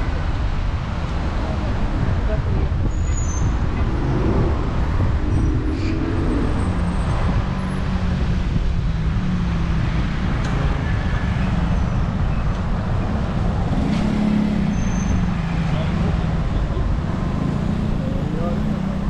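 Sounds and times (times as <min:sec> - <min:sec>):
car and bus engines passing: 0:00.0 - 0:19.0.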